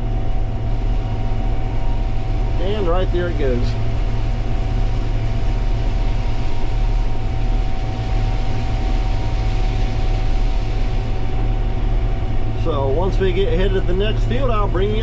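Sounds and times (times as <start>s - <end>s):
combine harvester low drone: 0.0s - 15.0s
constant high whine: 0.0s - 15.0s.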